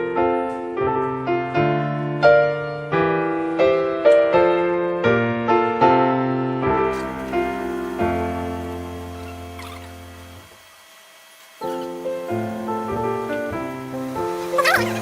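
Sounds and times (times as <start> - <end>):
piano playing steady notes: 0.0 - 10.7, 11.6 - 15.0.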